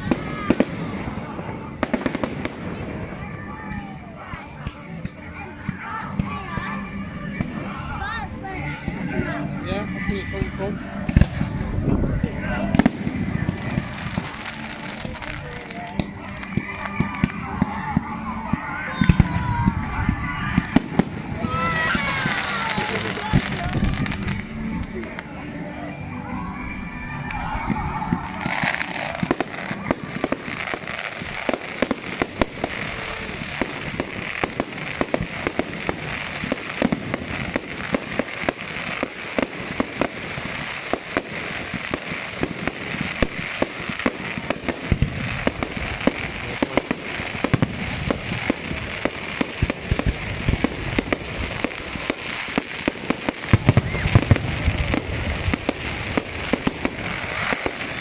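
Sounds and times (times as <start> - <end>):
deep firework bangs: 0.0 - 7.8, 8.6 - 25.3, 27.2 - 58.0
fireworks crackling and popping: 0.0 - 58.0.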